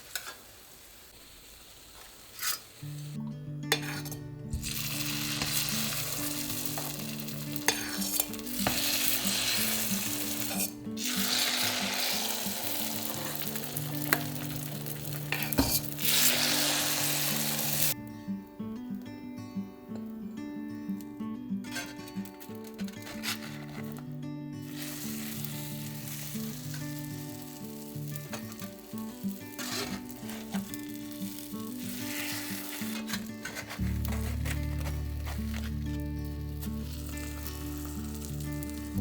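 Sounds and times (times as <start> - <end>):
food sizzling in a pan: 0.0 - 18.0, 24.6 - 39.0
soft background music: 2.9 - 39.0.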